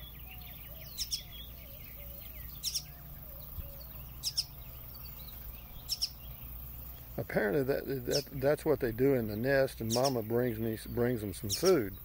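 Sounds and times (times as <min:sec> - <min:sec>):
low background hum: 0:00.0 - 0:12.0
young songbird chirping: 0:00.0 - 0:12.0.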